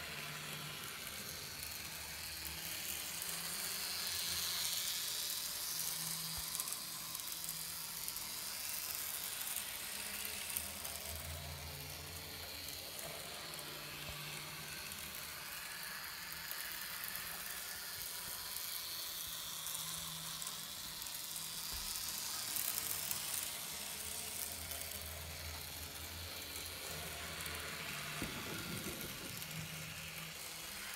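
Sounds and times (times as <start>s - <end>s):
model train motor and wheels on rails: 0.0s - 30.9s.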